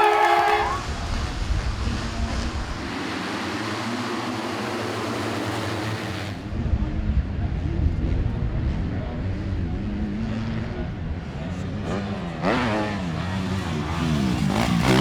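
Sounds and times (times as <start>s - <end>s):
motocross bike engines roaring: 0.0s - 15.0s.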